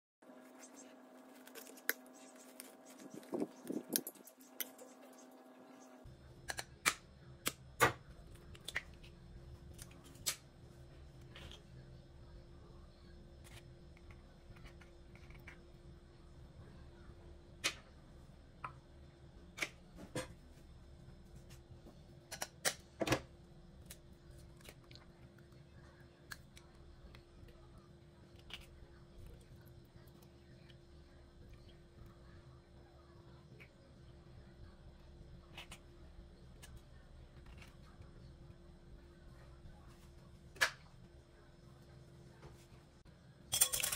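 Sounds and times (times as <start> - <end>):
low steady hum: 0.2 - 43.9.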